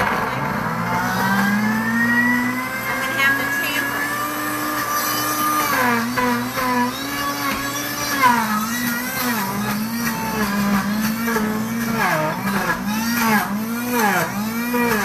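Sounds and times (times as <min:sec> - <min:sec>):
blender motor whining: 0:00.0 - 0:15.0.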